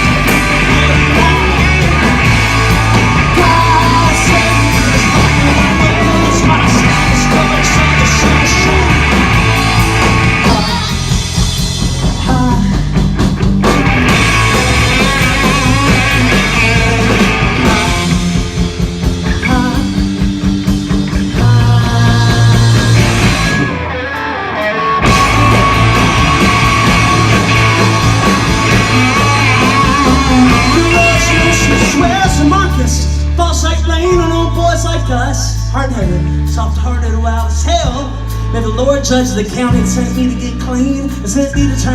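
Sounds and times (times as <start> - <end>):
live punk rock band: 0.0 - 41.9.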